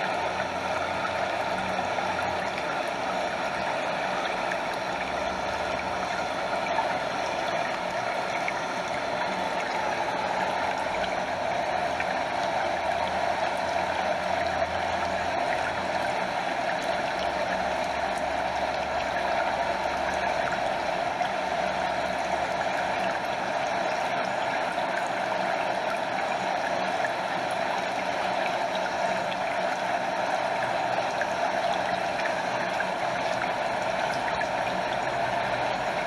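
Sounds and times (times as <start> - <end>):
stream over small waterfall: 0.0 - 36.0.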